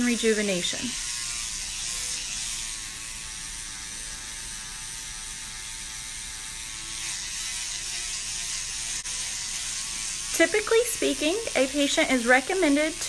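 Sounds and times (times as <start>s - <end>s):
small electric motor buzzing: 0.0s - 13.0s.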